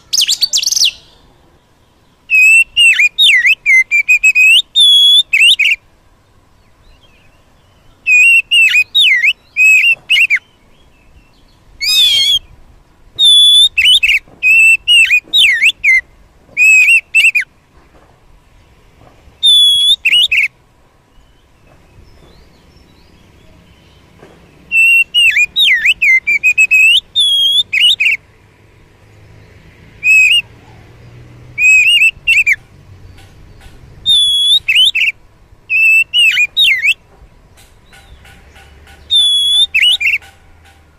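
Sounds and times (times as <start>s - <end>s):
bird singing whistled notes: 0.0s - 5.8s, 6.6s - 12.6s, 13.2s - 17.5s, 19.4s - 28.2s, 30.0s - 30.6s, 31.6s - 37.1s, 37.8s - 40.3s.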